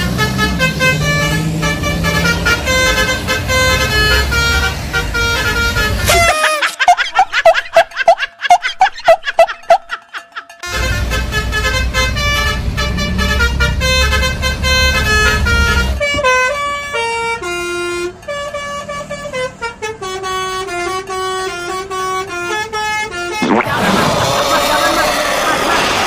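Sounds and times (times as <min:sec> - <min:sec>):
musical bus horn: 0:00.0 - 0:06.9, 0:10.6 - 0:26.0.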